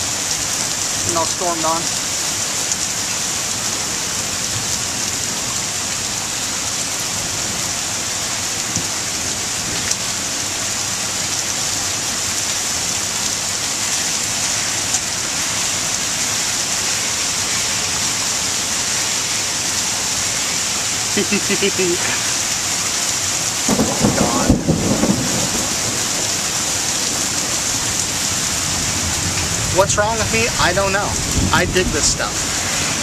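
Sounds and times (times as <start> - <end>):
steady rain pouring: 0.0 - 33.0.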